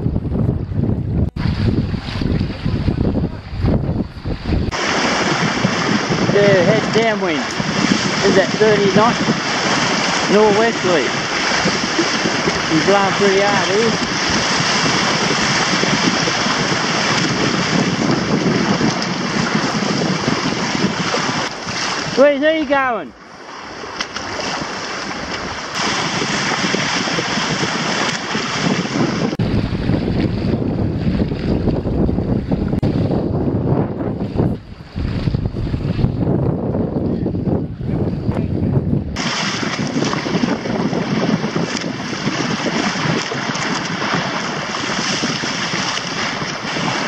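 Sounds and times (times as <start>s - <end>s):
water splashing along a hull: 0.0s - 47.0s
waves slapping and spraying: 0.0s - 47.0s
wind buffeting microphone: 0.0s - 47.0s.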